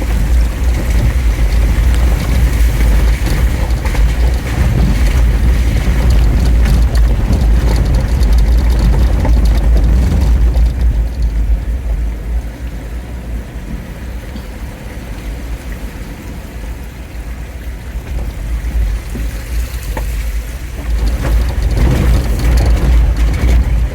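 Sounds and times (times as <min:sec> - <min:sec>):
car engine rumble and road noise: 0:00.0 - 0:23.9.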